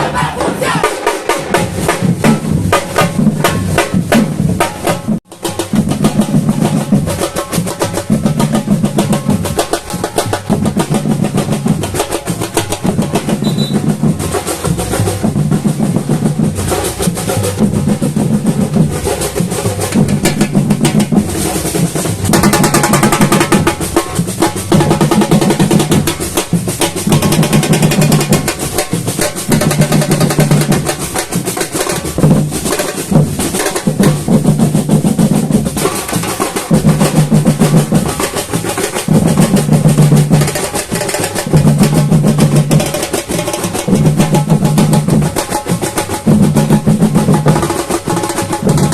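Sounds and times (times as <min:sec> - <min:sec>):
bass drums beating: 0:00.0 - 0:48.9
fast snare drums and percussion: 0:00.0 - 0:48.9.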